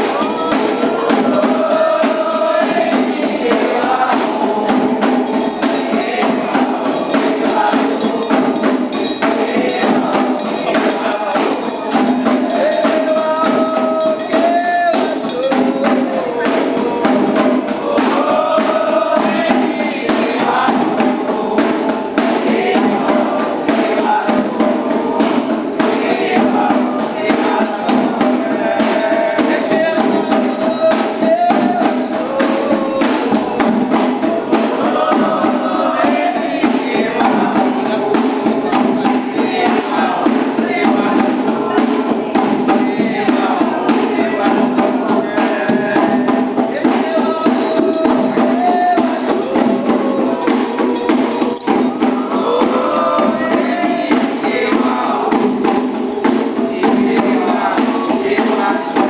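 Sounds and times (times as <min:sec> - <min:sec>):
fast percussion: 0:00.0 - 0:59.0
group of voices chanting: 0:00.0 - 0:59.0
struck metal bell: 0:04.6 - 0:41.3, 0:46.0 - 0:59.0.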